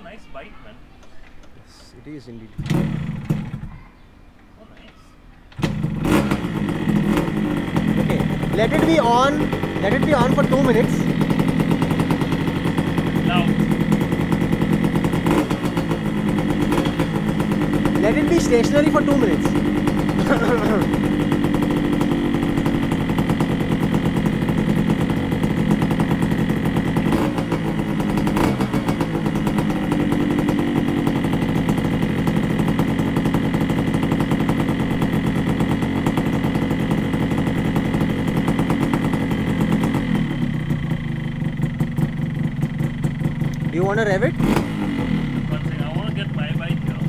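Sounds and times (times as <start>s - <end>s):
motorcycle engine idling: 2.5s - 3.9s, 5.5s - 47.0s.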